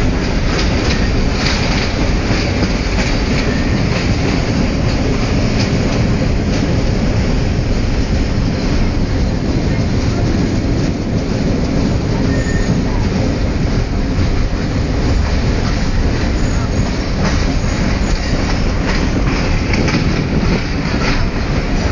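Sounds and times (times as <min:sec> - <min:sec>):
train rumbling on rails: 0:00.0 - 0:21.9
train wheel clicks: 0:00.0 - 0:21.9.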